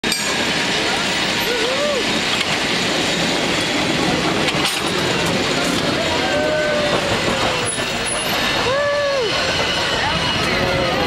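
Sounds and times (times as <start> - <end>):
cable car rumbling on rails: 0.0 - 11.0.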